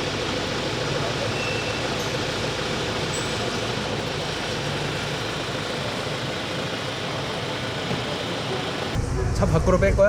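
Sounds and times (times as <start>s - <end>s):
low vehicle hum: 0.0s - 9.0s.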